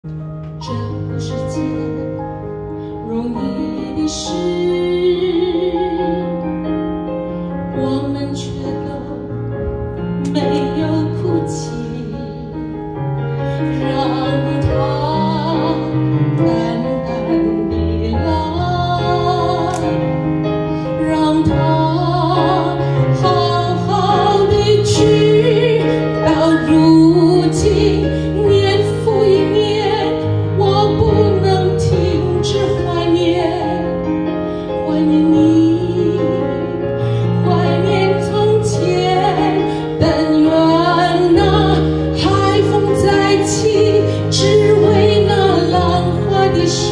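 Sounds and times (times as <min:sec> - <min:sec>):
keyboard accompaniment: 0:00.0 - 0:46.9
woman singing a ballad: 0:00.1 - 0:46.9.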